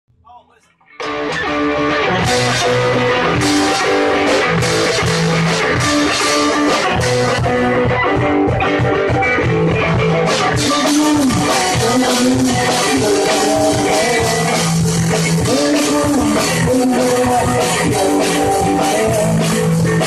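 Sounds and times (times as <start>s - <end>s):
punk rock band playing: 0.2s - 20.0s.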